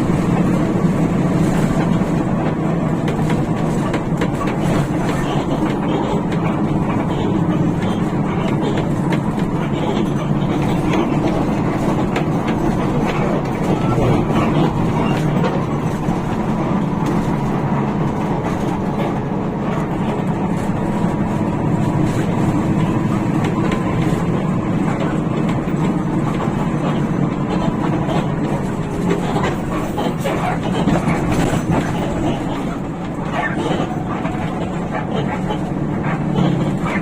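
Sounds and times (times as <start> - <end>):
bus diesel engine droning: 0.0 - 37.0
road and body noise: 0.0 - 37.0.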